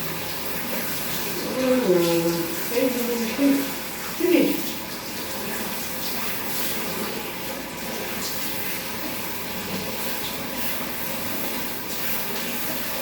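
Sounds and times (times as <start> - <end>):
shower spray running: 0.0 - 13.0.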